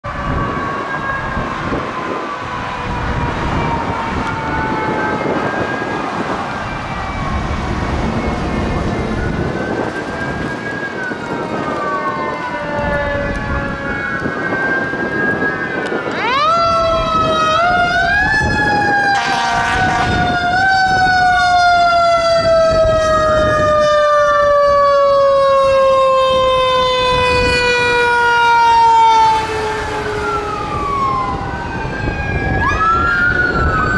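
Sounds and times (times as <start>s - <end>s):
fire engine sirens wailing: 0.0s - 33.9s
road and engine noise: 0.0s - 33.9s.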